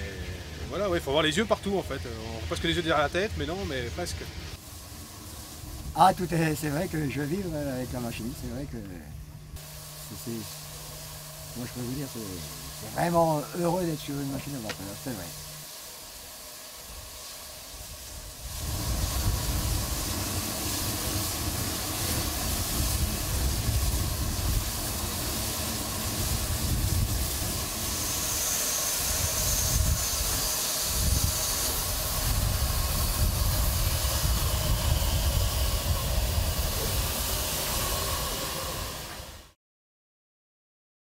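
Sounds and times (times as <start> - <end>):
steam hissing: 0.0 - 39.6.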